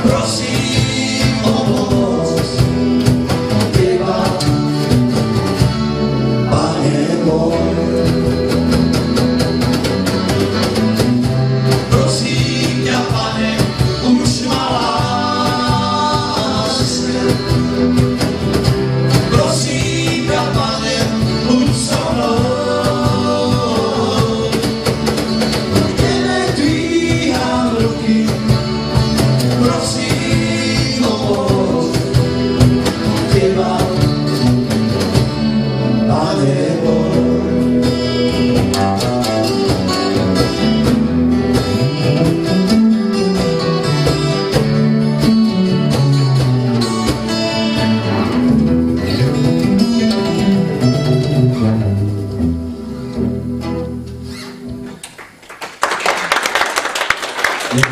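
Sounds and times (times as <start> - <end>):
accordion: 0.0 - 54.4
strummed guitars: 0.0 - 55.4.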